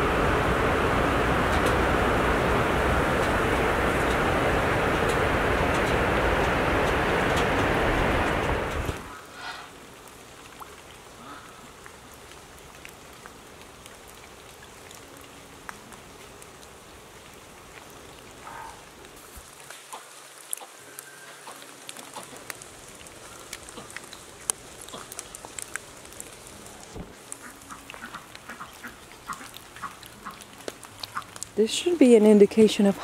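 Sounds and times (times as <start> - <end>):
light rain hiss: 0.0 - 33.0
raindrops ticking on surfaces: 0.0 - 33.0.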